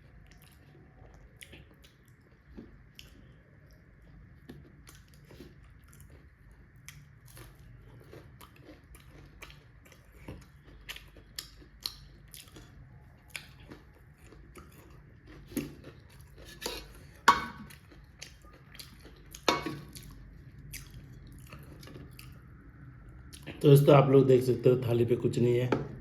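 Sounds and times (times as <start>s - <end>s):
chewing and eating: 0.0s - 23.6s.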